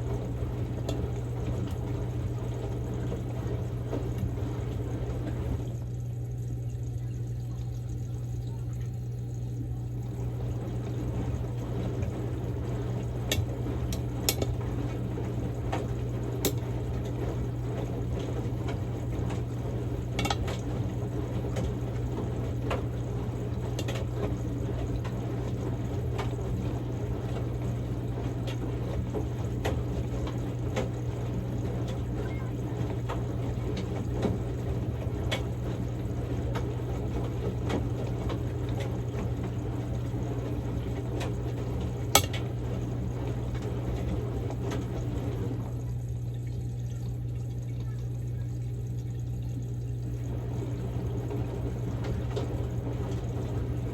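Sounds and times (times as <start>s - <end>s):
washing machine motor hum: 0.0s - 53.9s
water sloshing in drum: 0.0s - 53.9s.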